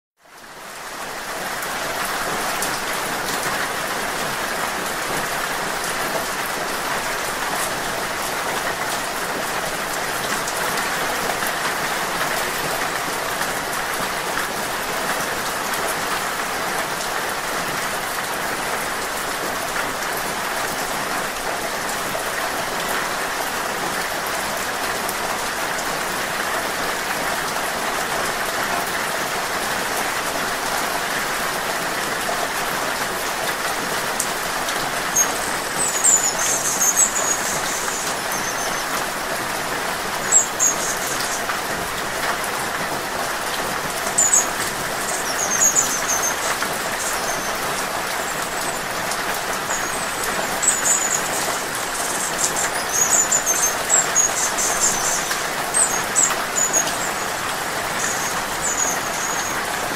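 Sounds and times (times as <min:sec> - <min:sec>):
steady rain falling: 0:00.2 - 0:59.9.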